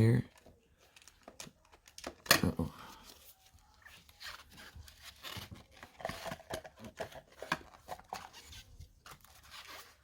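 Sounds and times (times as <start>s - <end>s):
plastic parts clicking and scraping: 0.3s - 3.3s, 4.0s - 10.0s.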